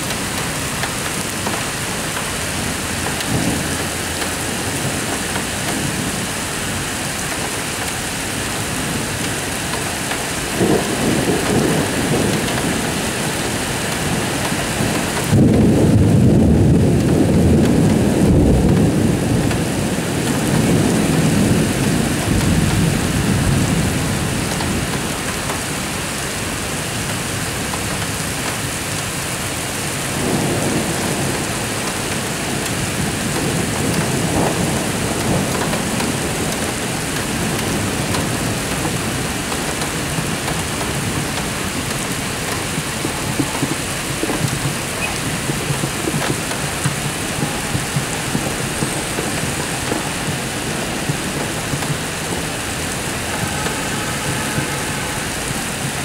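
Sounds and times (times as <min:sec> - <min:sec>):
heavy rain falling: 0:00.0 - 0:56.0
rolling thunder: 0:00.1 - 0:28.4, 0:29.6 - 0:56.0.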